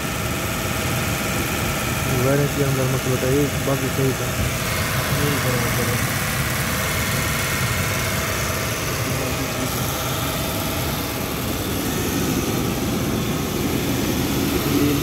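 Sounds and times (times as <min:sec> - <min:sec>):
car engine idling: 0:02.1 - 0:15.0.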